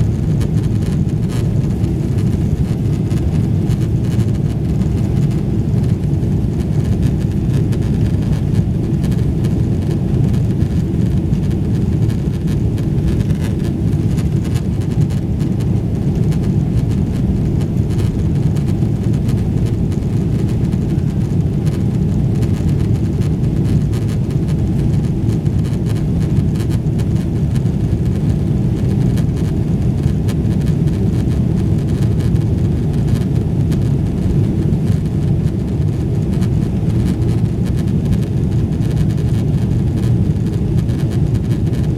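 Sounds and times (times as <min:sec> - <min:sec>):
airplane cabin engine noise: 0:00.0 - 0:41.9.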